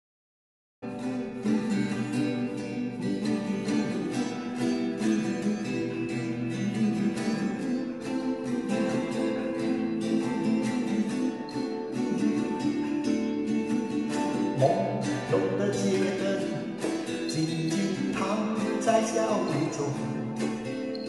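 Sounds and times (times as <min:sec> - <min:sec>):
acoustic guitar picking notes: 0:00.8 - 0:21.0.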